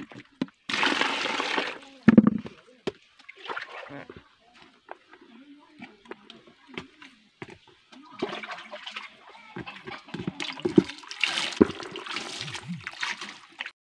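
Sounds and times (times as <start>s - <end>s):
water sloshing in a basin: 0.0s - 13.7s.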